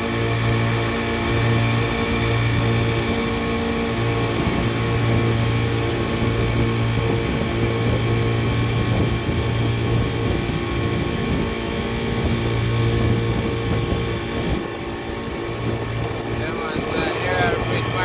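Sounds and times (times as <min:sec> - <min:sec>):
outboard motor humming: 0:00.0 - 0:18.0
wind: 0:00.0 - 0:18.0.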